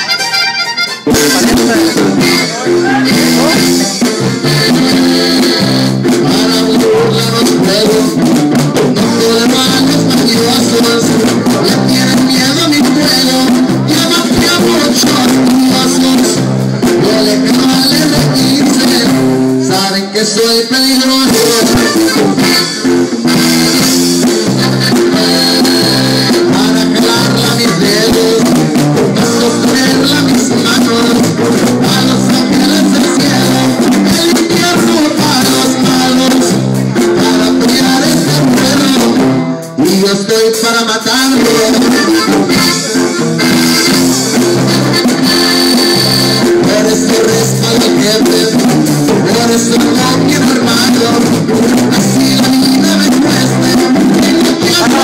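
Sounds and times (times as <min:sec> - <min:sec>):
accordion: 0:00.0 - 0:55.0
drum kit: 0:00.0 - 0:55.0
electric bass: 0:00.0 - 0:55.0
guitar: 0:00.0 - 0:55.0.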